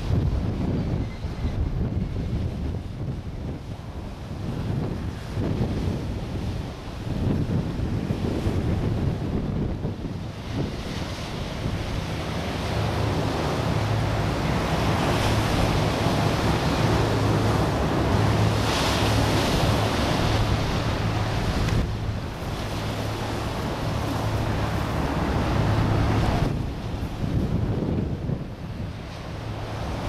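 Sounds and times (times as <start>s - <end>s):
hovercraft engine hum: 0.0s - 30.0s
rush of wind and surf: 0.0s - 30.0s
wind buffeting microphone: 0.0s - 30.0s.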